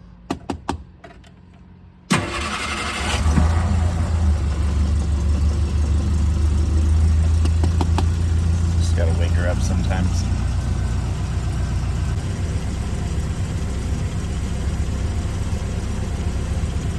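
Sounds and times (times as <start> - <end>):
car engine starting and idling: 1.4 - 16.9.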